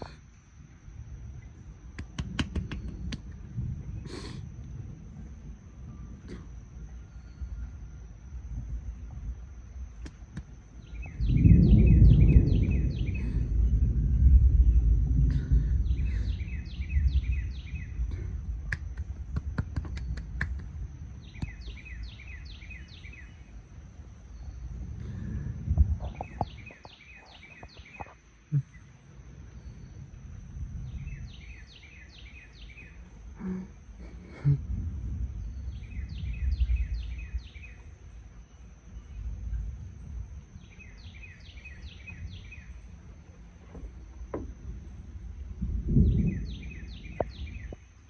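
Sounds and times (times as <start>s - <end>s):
thunder rumbling: 0.9s - 48.0s
songbird chirping: 5.8s - 48.0s.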